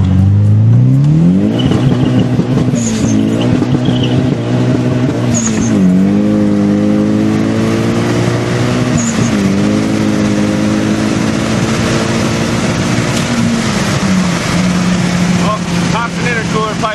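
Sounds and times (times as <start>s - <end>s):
car engine at full throttle: 0.0s - 16.9s.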